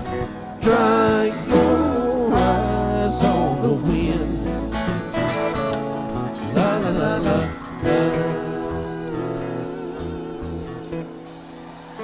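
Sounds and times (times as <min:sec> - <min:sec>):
electric lead guitar melody: 0:00.0 - 0:12.0
live rock band playing: 0:00.0 - 0:12.0.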